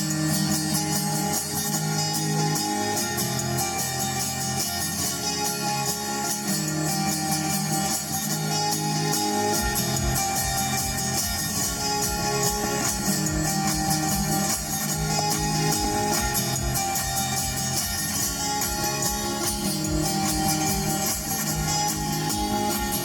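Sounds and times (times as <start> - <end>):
live guitar music: 0.0 - 23.0.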